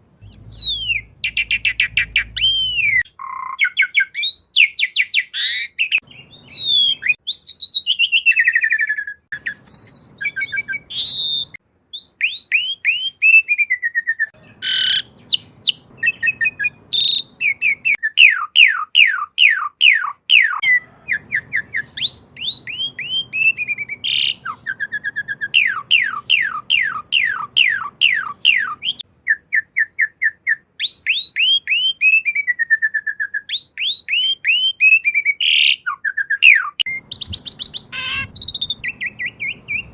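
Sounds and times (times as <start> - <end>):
starling singing: 0.2 - 39.9.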